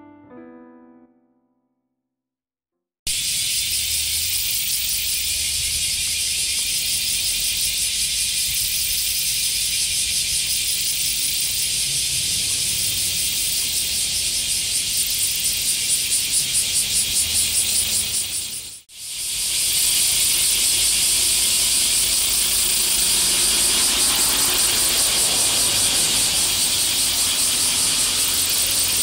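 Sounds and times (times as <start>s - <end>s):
cicadas singing: 3.1s - 29.0s.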